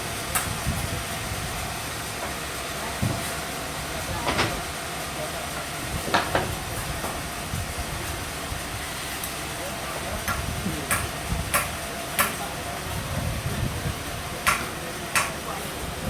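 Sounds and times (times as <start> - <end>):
sawmill machinery humming: 0.0 - 16.0.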